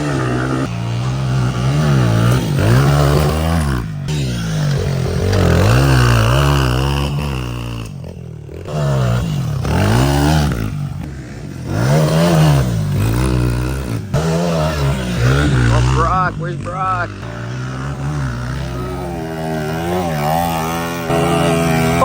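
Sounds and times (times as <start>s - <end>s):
small motorcycle engine revving: 0.0s - 22.0s.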